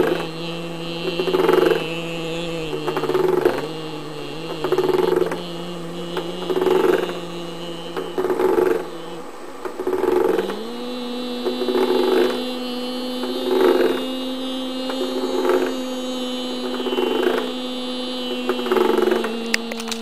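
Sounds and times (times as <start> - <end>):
person humming a steady tone: 0.0 - 20.0.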